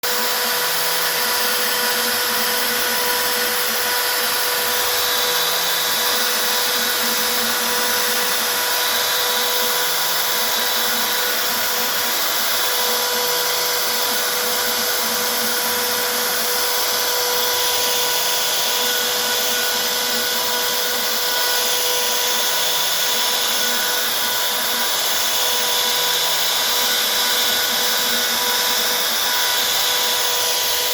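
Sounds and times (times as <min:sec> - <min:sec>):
milling spindle high whine: 0:00.1 - 0:30.9.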